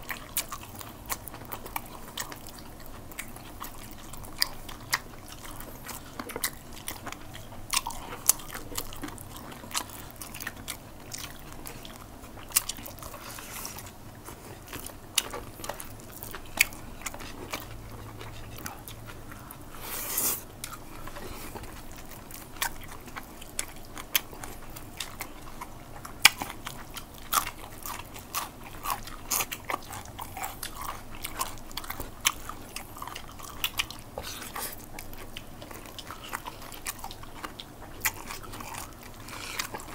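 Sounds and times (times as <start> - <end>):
wet chewing and biting: 0.0 - 39.9.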